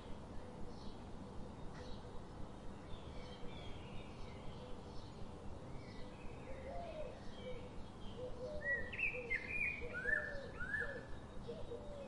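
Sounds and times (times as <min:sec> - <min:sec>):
small birds chirping: 0:00.0 - 0:12.0
steady background hiss: 0:00.0 - 0:12.0.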